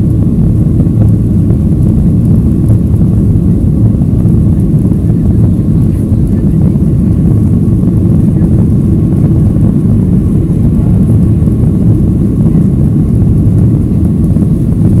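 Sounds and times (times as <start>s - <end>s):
jet engines rumbling: 0.0s - 15.0s
rushing air: 0.0s - 15.0s.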